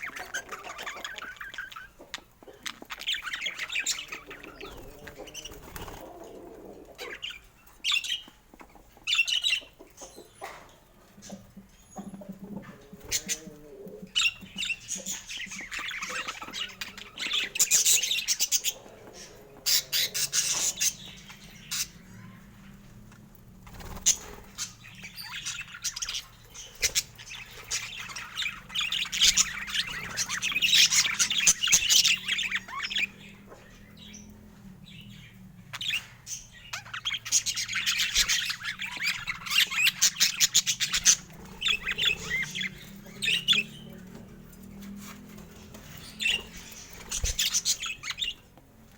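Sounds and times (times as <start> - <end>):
budgerigars chattering and squawking: 0.0 - 48.6.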